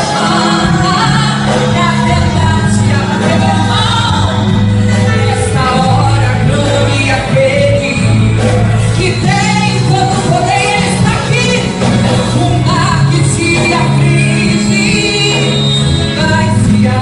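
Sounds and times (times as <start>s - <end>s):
instrumental backing: 0.0s - 17.0s
woman singing: 0.0s - 17.0s.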